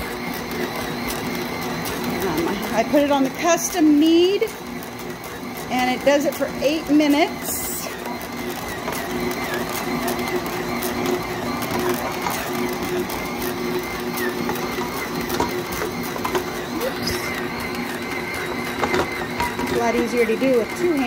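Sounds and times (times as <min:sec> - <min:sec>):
stand mixer motor humming: 0:00.0 - 0:21.0.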